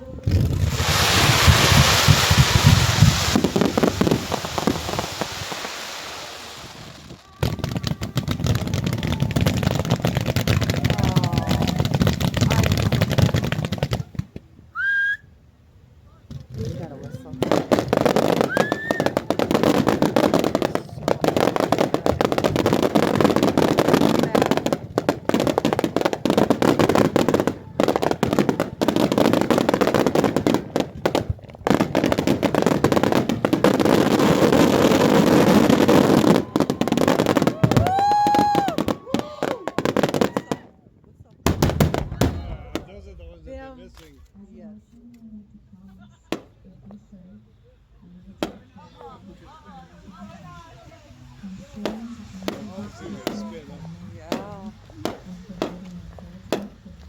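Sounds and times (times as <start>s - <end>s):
fireworks crackling and popping: 0.0s - 14.6s, 16.2s - 47.3s, 48.3s - 57.0s.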